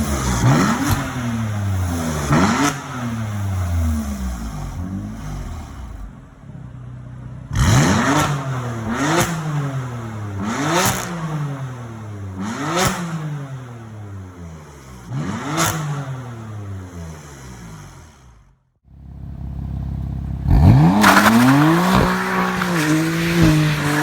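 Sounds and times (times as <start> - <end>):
car engine revving: 0.0 - 18.6, 19.2 - 24.0.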